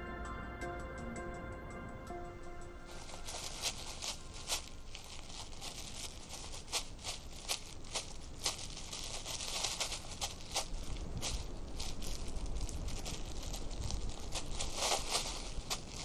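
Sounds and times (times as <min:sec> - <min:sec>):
steady hiss: 0:02.1 - 0:16.0
dry leaves rustling and crackling: 0:02.8 - 0:16.0
sharp cracks: 0:02.9 - 0:16.0.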